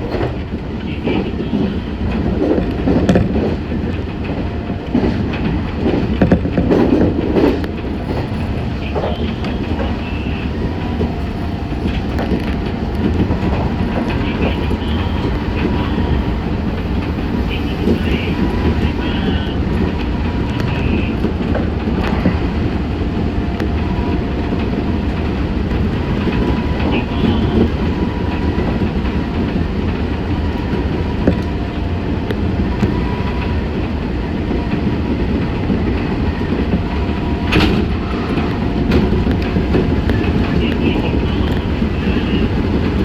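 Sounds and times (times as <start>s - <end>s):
rail joint clicks: 0.0s - 43.0s
train wheels rumbling on rail: 0.0s - 43.0s.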